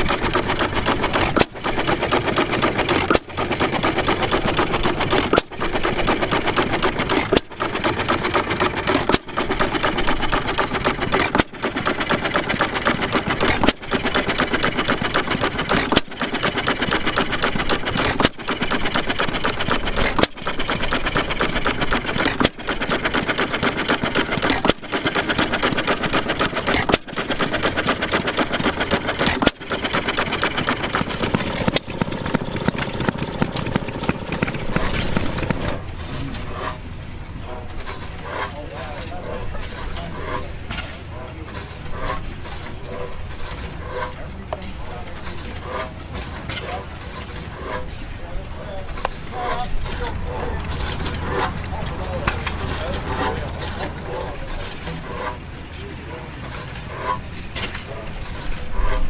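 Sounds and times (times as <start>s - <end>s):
antique machinery clattering: 0.0s - 59.0s.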